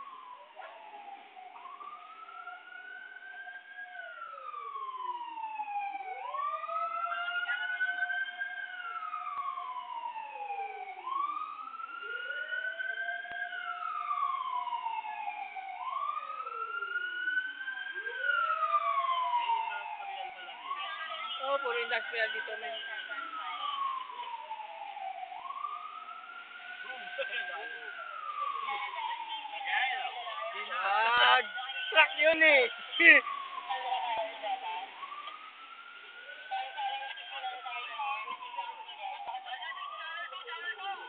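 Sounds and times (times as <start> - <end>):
emergency sirens wailing: 0.0 - 41.0.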